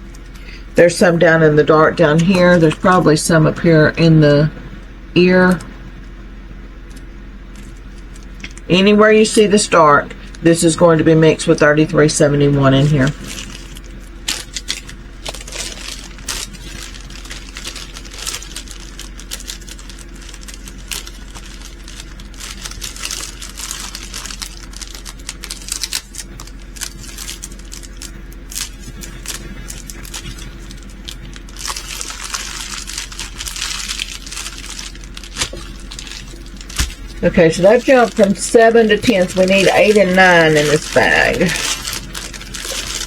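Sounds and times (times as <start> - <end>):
plastic bags rustling: 0.0 - 4.4, 11.3 - 43.0.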